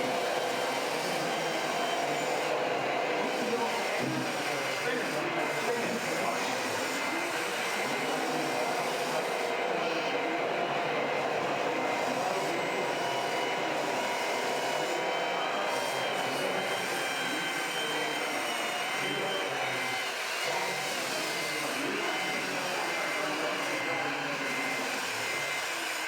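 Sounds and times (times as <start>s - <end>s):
crowd chatter: 0.0s - 26.0s
electric motors whining: 0.0s - 26.0s.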